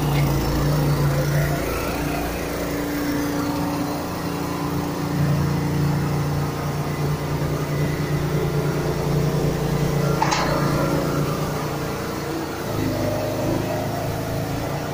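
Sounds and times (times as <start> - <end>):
straw blower engine running: 0.0 - 14.9.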